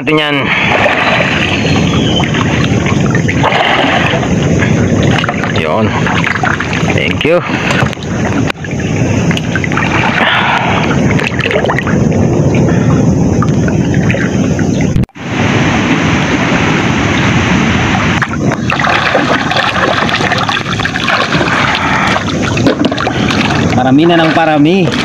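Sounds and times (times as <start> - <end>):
floodwater rushing and splashing: 0.0 - 12.0, 15.2 - 25.0.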